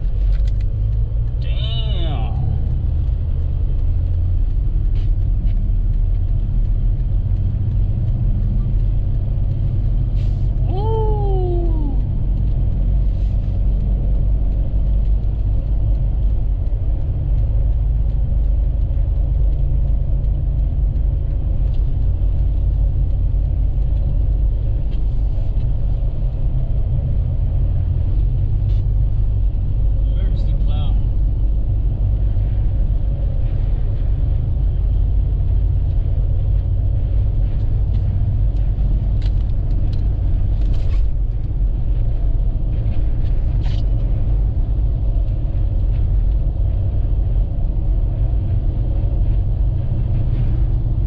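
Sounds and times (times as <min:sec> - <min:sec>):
road and engine rumble inside vehicle: 0:00.0 - 0:51.0.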